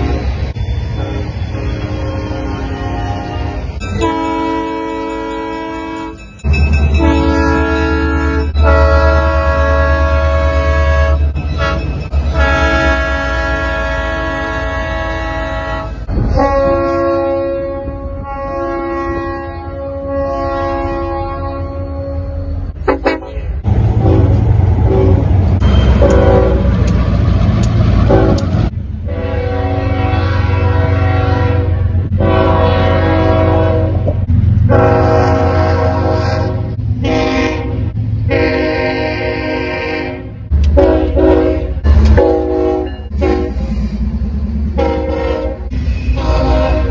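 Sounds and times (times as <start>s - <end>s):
train air horn blasts: 0.0s - 6.2s, 7.0s - 26.9s, 28.0s - 43.9s, 44.7s - 46.9s.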